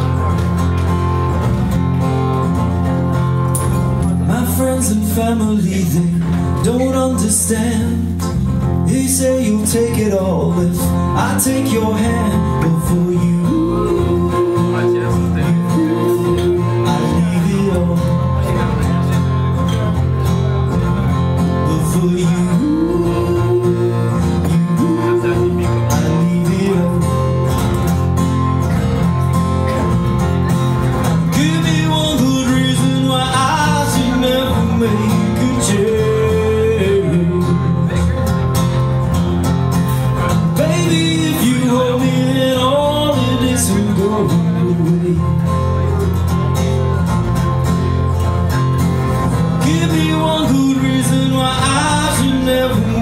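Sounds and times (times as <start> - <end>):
electric bass: 0.0 - 53.0
strummed acoustic guitar: 0.0 - 53.0
man singing: 4.0 - 27.9, 30.9 - 39.1, 39.9 - 46.6, 49.1 - 53.0.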